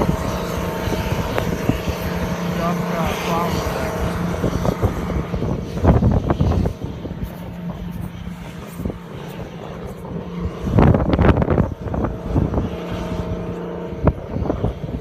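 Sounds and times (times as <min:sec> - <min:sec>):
rushing burst: 0:00.0 - 0:14.5
car cabin drone: 0:00.0 - 0:15.0.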